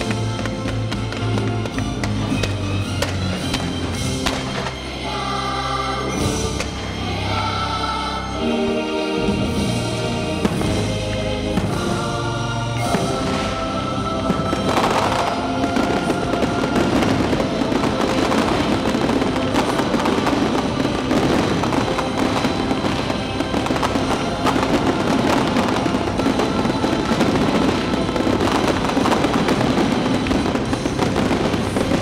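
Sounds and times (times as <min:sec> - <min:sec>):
fireworks crackling and popping: 0:00.0 - 0:08.6, 0:09.2 - 0:32.0
music with held chords: 0:00.0 - 0:32.0.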